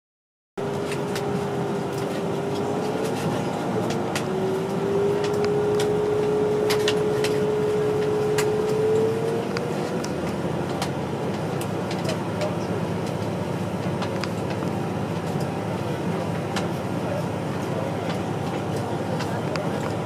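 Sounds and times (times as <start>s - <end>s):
train rumble inside carriage: 0.6s - 20.0s.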